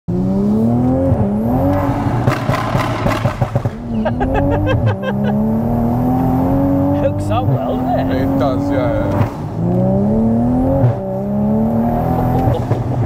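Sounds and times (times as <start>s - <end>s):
car engine accelerating: 0.1s - 13.0s.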